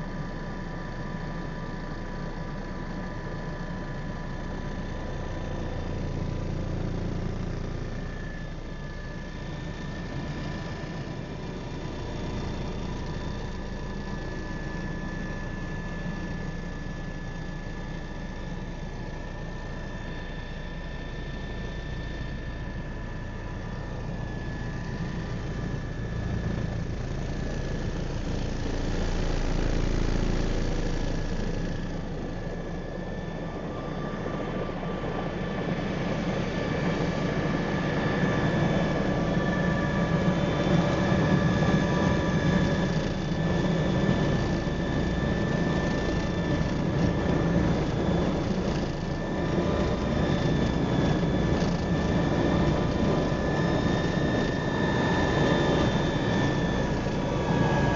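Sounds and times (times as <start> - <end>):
helicopter engines whining: 0.0 - 57.9
helicopter rotor rumble: 0.0 - 57.9.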